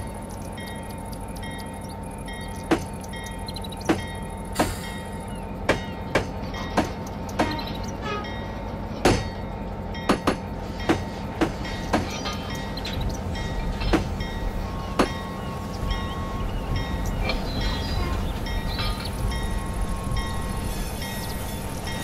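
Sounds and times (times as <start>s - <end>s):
constant high tone: 0.0s - 22.0s.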